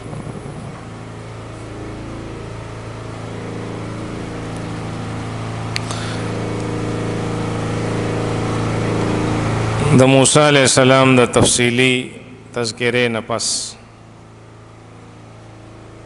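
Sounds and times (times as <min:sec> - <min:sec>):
low engine-like hum: 0:00.0 - 0:16.0.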